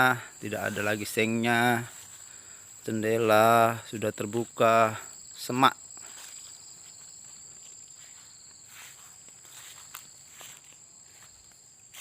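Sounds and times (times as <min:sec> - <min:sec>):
faint footsteps in undergrowth: 0:00.0 - 0:12.0
insects droning: 0:00.0 - 0:12.0.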